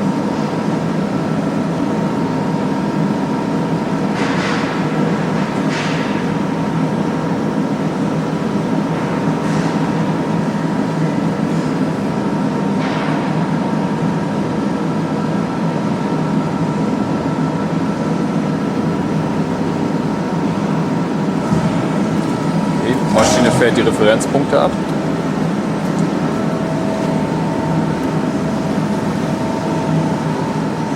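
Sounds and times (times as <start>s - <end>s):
motor hum and whine: 0.0s - 30.9s.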